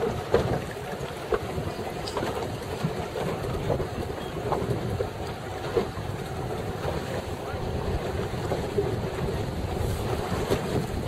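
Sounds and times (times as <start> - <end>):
water slapping against boat hull: 0.0 - 11.0
wind noise on microphone: 0.0 - 11.0.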